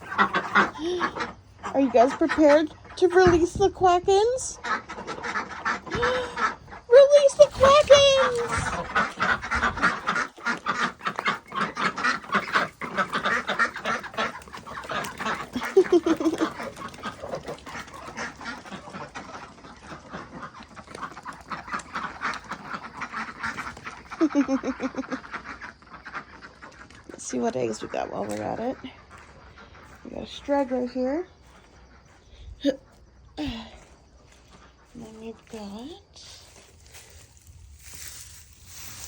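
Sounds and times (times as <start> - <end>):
ducks quacking: 0.0 - 39.0.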